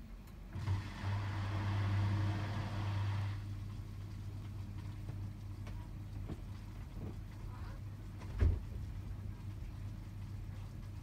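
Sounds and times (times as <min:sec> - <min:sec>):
washing machine hum: 0:00.0 - 0:11.0
water rushing in washing machine: 0:00.5 - 0:11.0.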